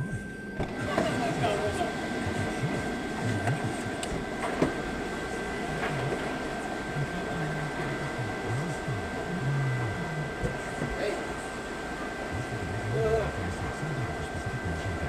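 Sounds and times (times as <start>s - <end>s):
mechanical hum with high whine: 0.0s - 15.0s.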